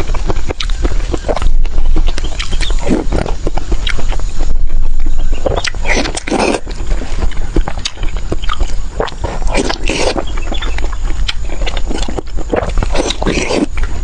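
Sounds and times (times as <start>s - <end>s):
slurping: 0.0s - 4.3s, 5.4s - 14.0s
mouth and teeth clicks: 0.0s - 14.0s
steady low hum: 0.0s - 14.0s
wet chewing and biting: 0.0s - 14.0s.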